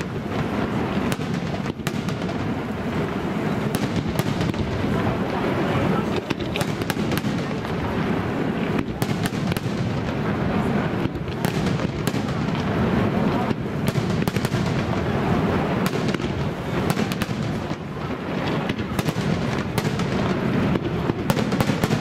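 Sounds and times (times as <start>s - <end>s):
fireworks cracks and pops: 0.0s - 22.0s.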